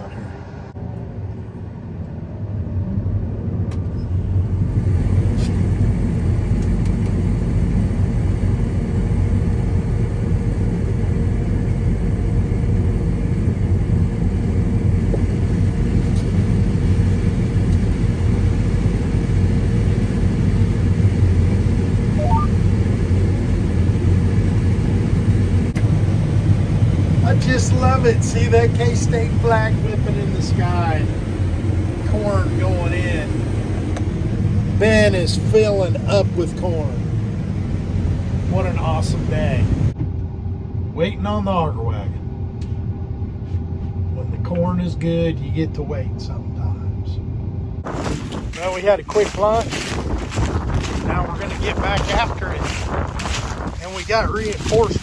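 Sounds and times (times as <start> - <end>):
combine harvester engine rumbling: 2.8 - 55.0.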